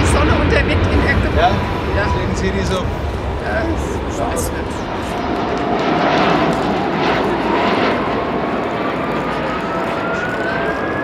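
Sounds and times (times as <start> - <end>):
jet engine roar: 0.0 - 11.0
jet engine whine rising: 0.0 - 11.0.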